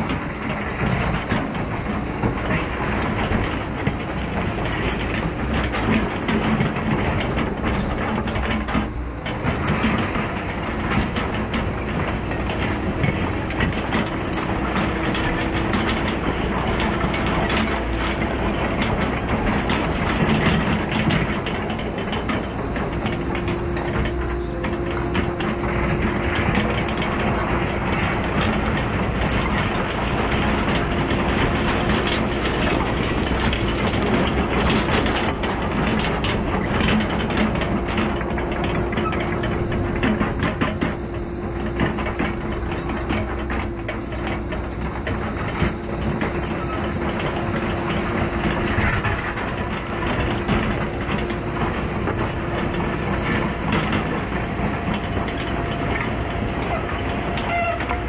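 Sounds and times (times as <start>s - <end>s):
excavator engine and hydraulics: 0.0s - 58.0s
metallic clanks and rattles: 0.0s - 58.0s.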